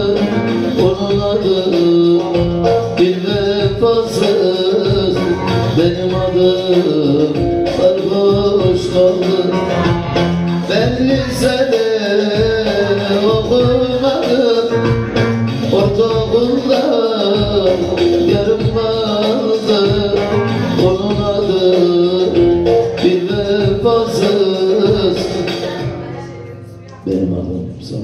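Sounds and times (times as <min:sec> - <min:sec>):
electric lute melody: 0:00.0 - 0:26.9
steady percussion: 0:00.0 - 0:27.1.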